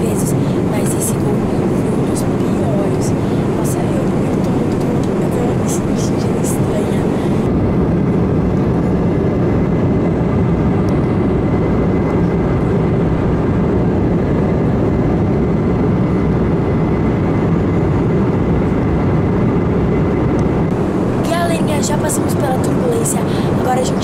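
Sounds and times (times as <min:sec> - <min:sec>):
jet airliner cabin noise: 0:00.0 - 0:24.0.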